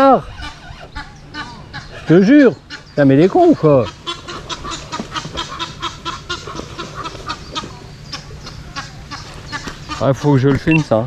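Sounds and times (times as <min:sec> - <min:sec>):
duck calling: 0:00.0 - 0:11.0.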